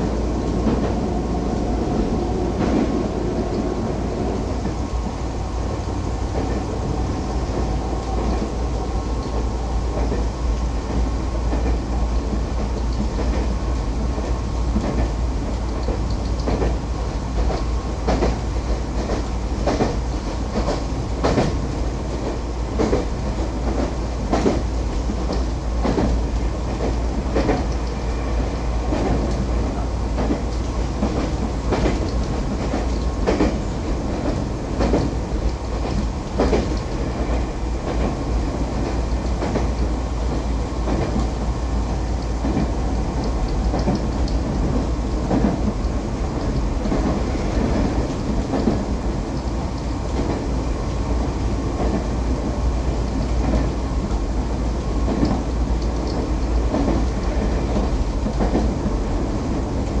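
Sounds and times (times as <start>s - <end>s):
rail joint clacks: 0.0s - 60.0s
train wheels rumbling on rails: 0.0s - 60.0s.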